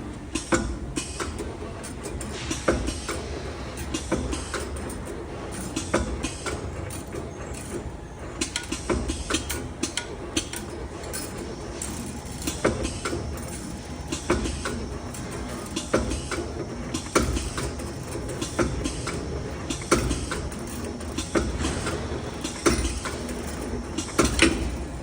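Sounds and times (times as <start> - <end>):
machine clicks and clacks: 0.0 - 25.0
machine humming: 0.0 - 25.0.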